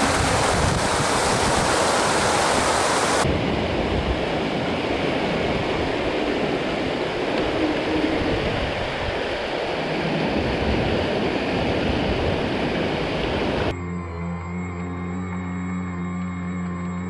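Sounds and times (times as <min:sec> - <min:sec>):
water rushing over weir: 0:00.0 - 0:13.7.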